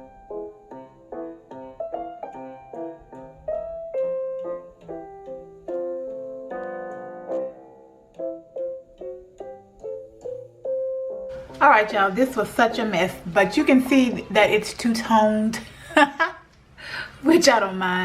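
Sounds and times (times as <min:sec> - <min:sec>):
piano music: 0:00.0 - 0:16.5.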